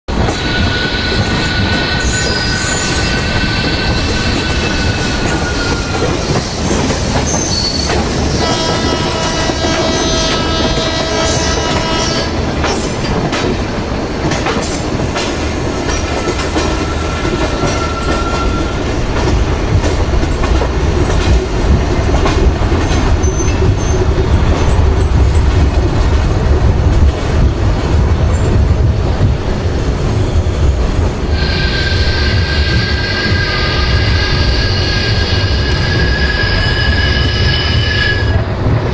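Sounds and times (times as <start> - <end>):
train rumble: 0.1 - 38.9
train wheels clattering: 0.1 - 38.9.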